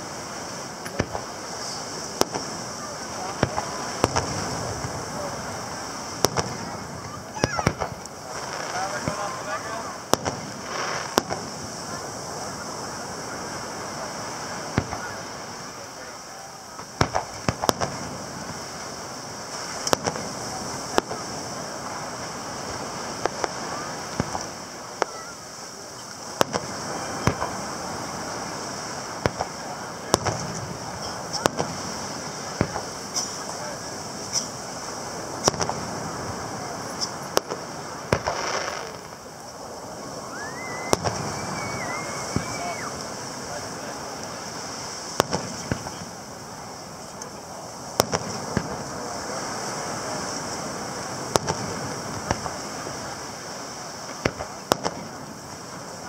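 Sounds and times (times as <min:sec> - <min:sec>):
distant firework bangs: 0:00.0 - 0:56.0
ocean surf: 0:00.0 - 0:56.0.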